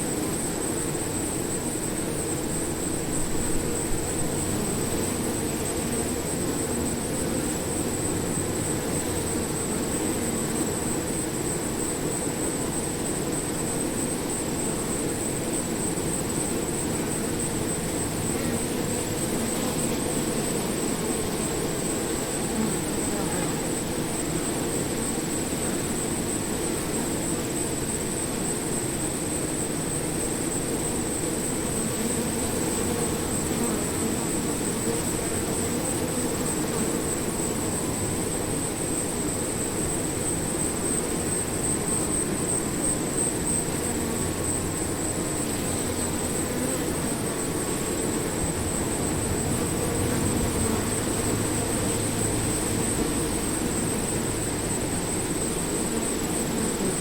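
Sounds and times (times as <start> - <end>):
bees buzzing: 0.1 - 27.6, 30.7 - 57.0.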